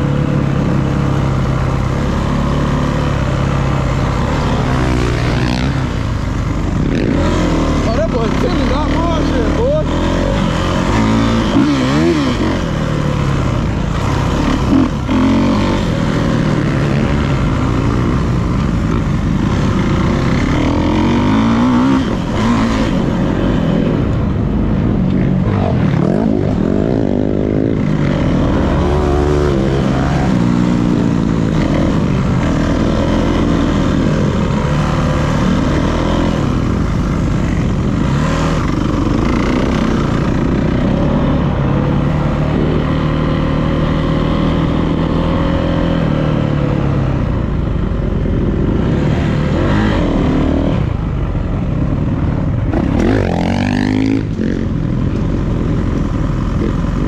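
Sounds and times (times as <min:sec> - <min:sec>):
dirt bike engine revving: 0:00.0 - 0:47.2, 0:48.0 - 0:51.0, 0:51.8 - 0:57.0.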